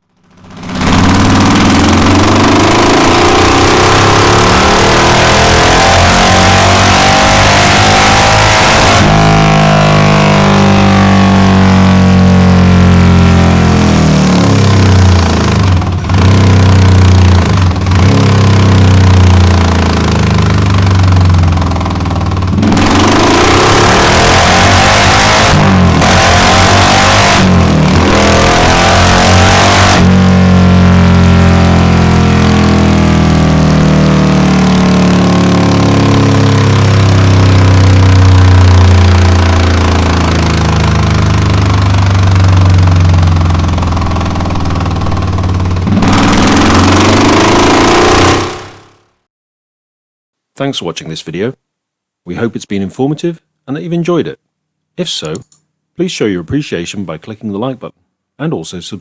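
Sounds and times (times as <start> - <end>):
motorcycle engine revving on a dyno: 0.0 - 49.3.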